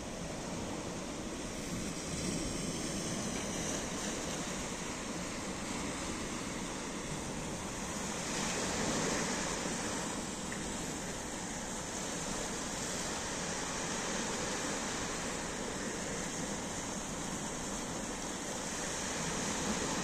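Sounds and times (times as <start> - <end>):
small waves washing onto shore: 0.0 - 20.0.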